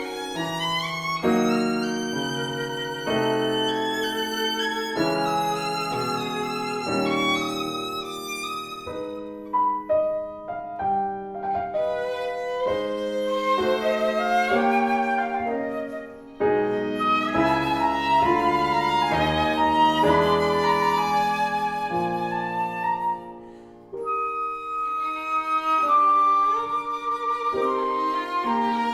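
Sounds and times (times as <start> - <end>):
flute: 0.0 - 28.9
piano: 0.0 - 28.9
violin melody: 0.0 - 28.9.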